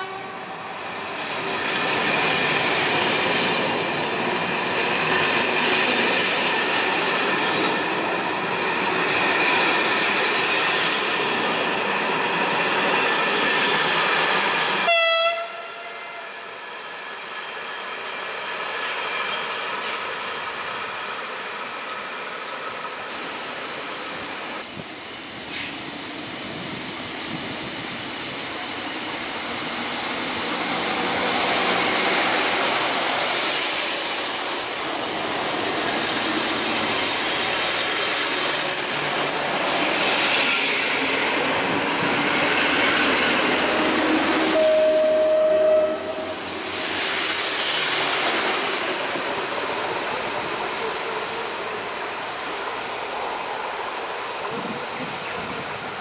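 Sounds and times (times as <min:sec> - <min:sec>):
diesel train engine and wheels: 0:00.0 - 0:56.0.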